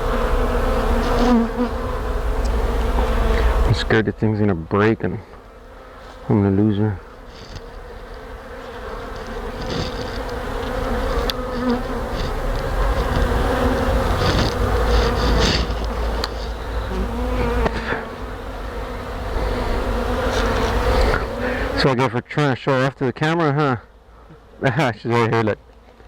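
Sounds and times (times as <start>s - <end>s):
honey bees buzzing: 0.0s - 22.8s.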